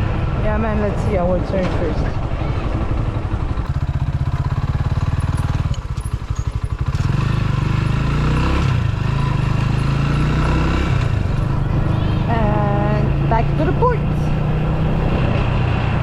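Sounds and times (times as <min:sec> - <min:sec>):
motorcycle engine accelerating: 0:01.7 - 0:16.0.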